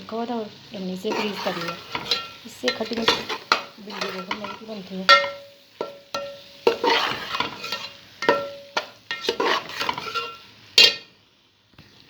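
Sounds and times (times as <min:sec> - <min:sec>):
light sizzling: 0:00.0 - 0:12.0
metal spoon scraping a pot: 0:01.1 - 0:11.1
spoon clinking against pot: 0:01.1 - 0:11.1.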